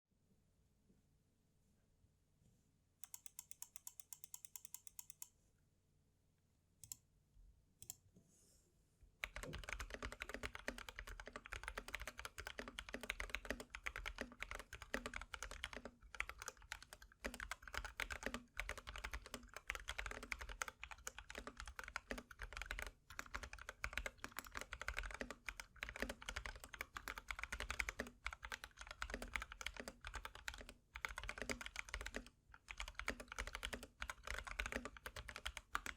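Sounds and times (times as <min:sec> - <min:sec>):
mechanical keyboard typing: 0:03.0 - 0:05.3, 0:09.2 - 0:35.9.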